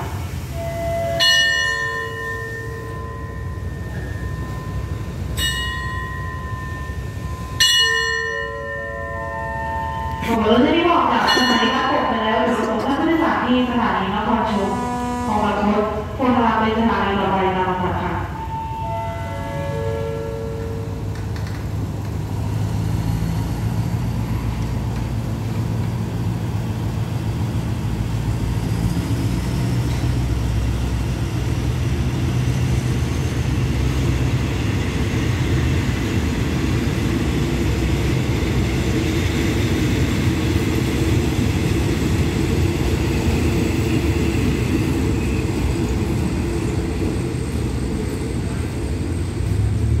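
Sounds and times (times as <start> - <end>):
train wheels rumbling on rail: 0.0 - 50.0
diesel engine droning: 8.9 - 50.0.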